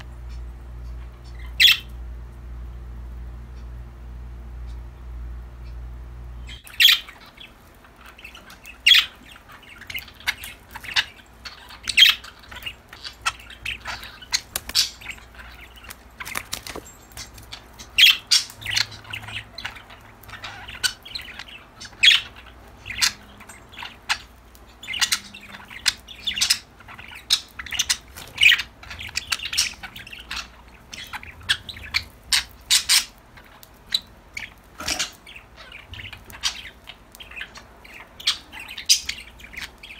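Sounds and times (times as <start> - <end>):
budgerigars chirping: 0.3 - 2.0, 6.4 - 39.9.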